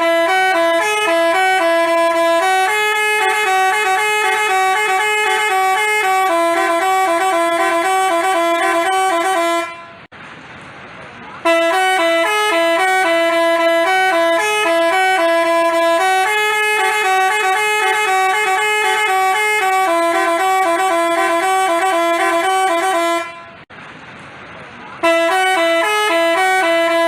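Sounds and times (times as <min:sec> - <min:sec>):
multi-tone bus horn melody: 0:00.0 - 0:10.1, 0:11.4 - 0:23.7, 0:25.0 - 0:27.0.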